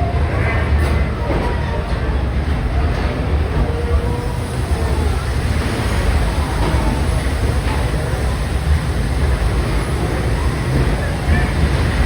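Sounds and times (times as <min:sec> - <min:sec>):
steam train rumbling on track: 0:00.0 - 0:12.0.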